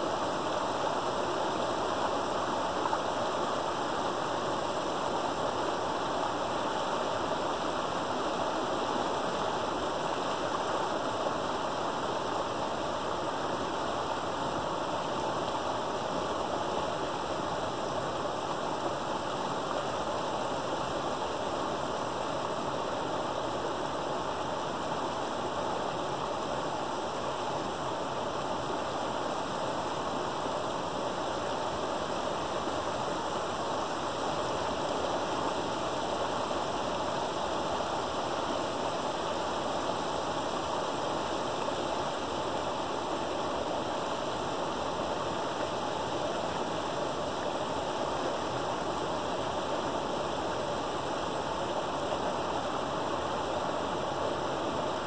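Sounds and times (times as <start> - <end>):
creek water rushing: 0.0 - 55.0
small waterfall pouring: 0.0 - 55.0.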